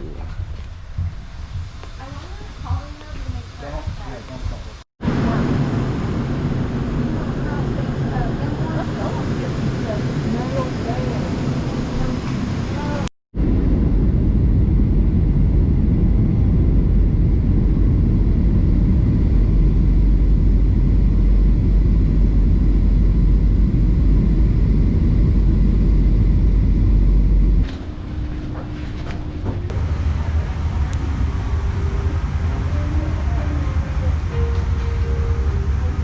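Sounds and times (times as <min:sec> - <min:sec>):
airliner engines rumbling: 0:00.0 - 0:36.0.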